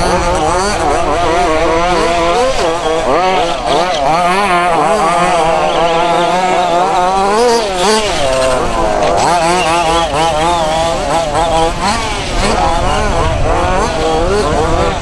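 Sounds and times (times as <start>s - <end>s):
small engines revving: 0.0s - 15.0s.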